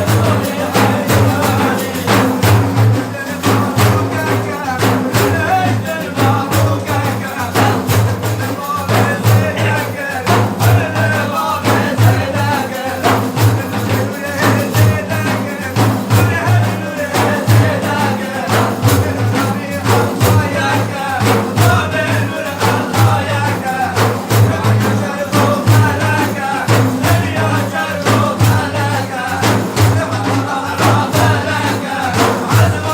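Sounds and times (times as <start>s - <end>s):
frame drums beaten: 0.0s - 32.9s
man chanting: 0.0s - 32.9s.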